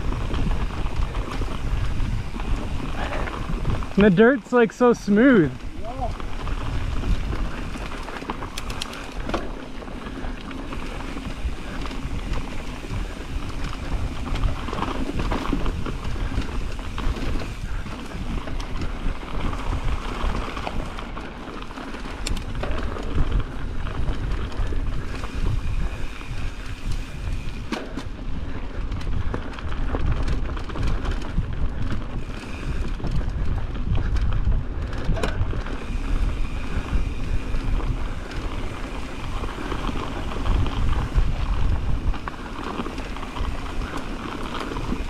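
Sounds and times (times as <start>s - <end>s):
sharp clicks from bike: 0.0s - 45.0s
tyre noise: 0.0s - 45.0s
wind rushing over microphone: 0.0s - 45.0s.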